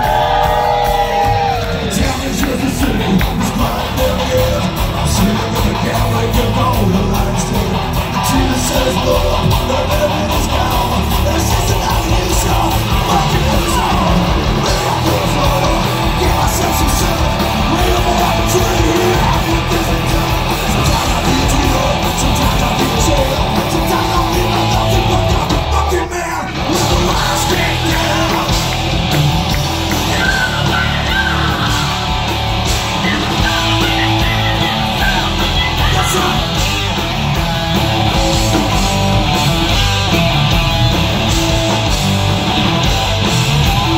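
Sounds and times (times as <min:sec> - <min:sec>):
shouted vocals: 0:00.0 - 0:39.8
distorted electric guitars: 0:00.0 - 0:43.9
drums: 0:00.0 - 0:43.9.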